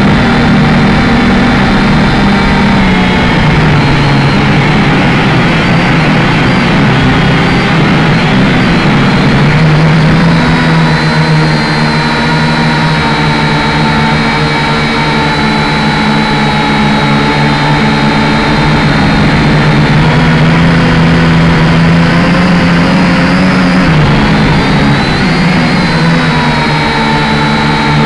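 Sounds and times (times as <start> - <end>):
drone propellers buzzing: 0.0 - 28.0.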